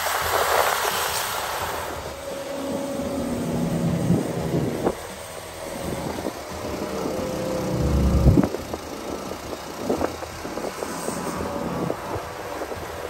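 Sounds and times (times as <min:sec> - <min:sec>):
snow-clearing machine engine: 0:00.0 - 0:13.0
heavy low rumble: 0:01.8 - 0:13.0.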